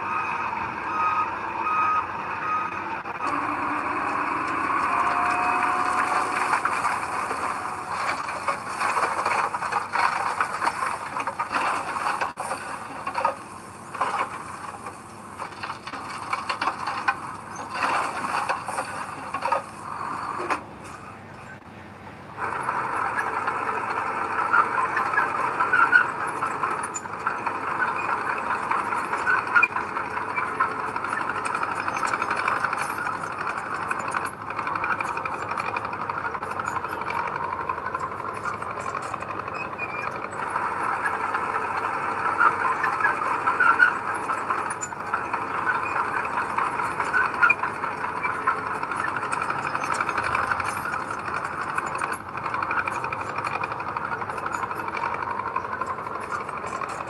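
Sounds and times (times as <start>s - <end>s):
earthmoving machinery engine: 0.0s - 57.0s
small clicks and clanks: 3.2s - 21.0s, 22.4s - 57.0s.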